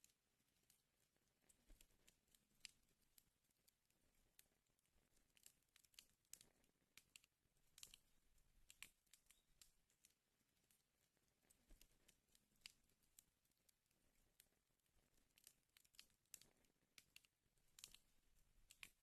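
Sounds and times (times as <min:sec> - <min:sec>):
wood fire crackling: 0:00.4 - 0:19.0.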